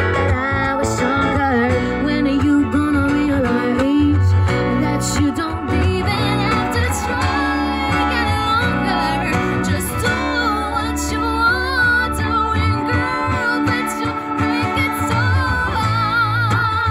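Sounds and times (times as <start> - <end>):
acoustic guitar: 0.0 - 16.9
electric bass guitar: 0.0 - 16.9
keyboard: 0.0 - 16.9
woman singing slow melody: 0.1 - 16.9.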